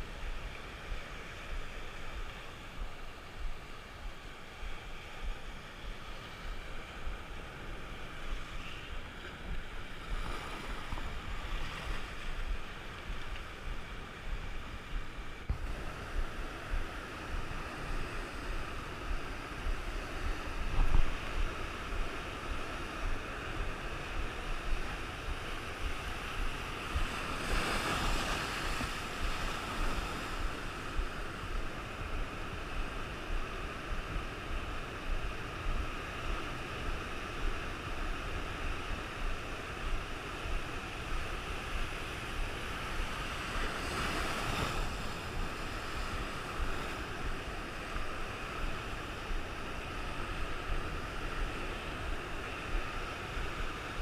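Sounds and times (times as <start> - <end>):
ocean surf breaking: 0.0 - 54.0
wind buffeting on microphone: 0.0 - 54.0.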